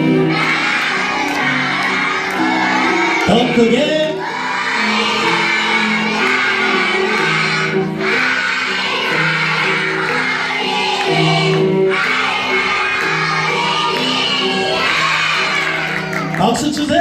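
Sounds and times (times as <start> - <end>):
children singing: 0.0 - 16.4
backing music: 0.0 - 17.0.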